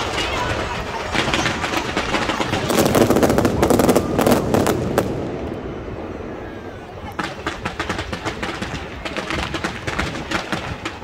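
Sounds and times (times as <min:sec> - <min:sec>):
fireworks popping and crackling: 0:00.0 - 0:05.7, 0:07.0 - 0:11.0.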